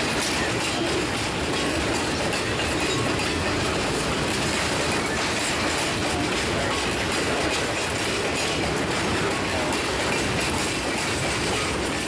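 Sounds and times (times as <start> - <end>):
freight train wheels clattering: 0.0 - 12.0.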